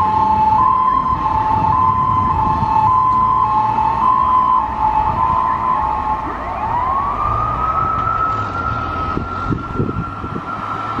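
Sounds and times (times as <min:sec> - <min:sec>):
engine and traffic rumble: 0:00.0 - 0:11.0
fire truck siren: 0:00.0 - 0:11.0.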